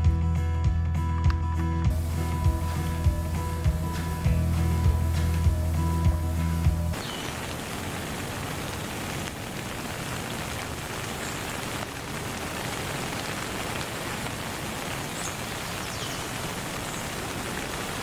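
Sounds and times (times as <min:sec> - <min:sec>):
steady rain: 0:01.9 - 0:18.0.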